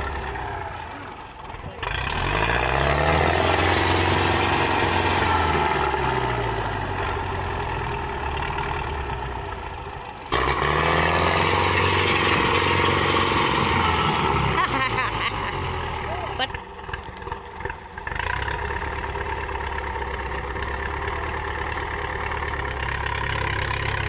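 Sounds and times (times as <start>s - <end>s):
tractor diesel engine straining: 0.0s - 24.0s.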